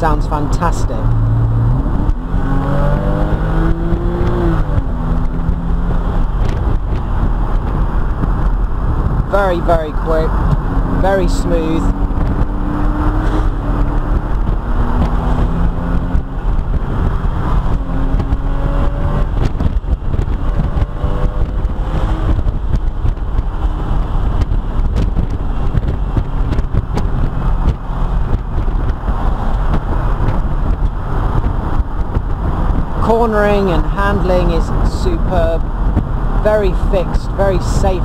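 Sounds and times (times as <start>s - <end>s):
car engine pulling at speed: 0.0s - 38.0s
road and wind noise: 0.0s - 38.0s.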